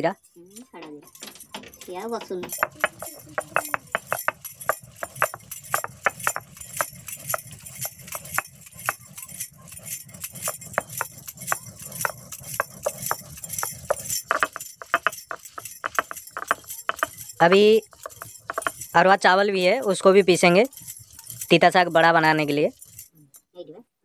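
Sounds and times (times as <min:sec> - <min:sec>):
stone roller grinding on stone: 0:00.0 - 0:23.2
bangles clinking: 0:00.0 - 0:23.5.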